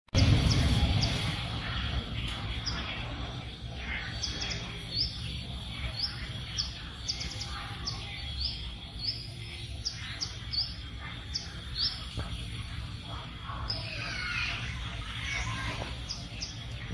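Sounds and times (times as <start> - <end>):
bird chirping: 0.2 - 16.9
steady high-pitched hum: 0.2 - 16.9.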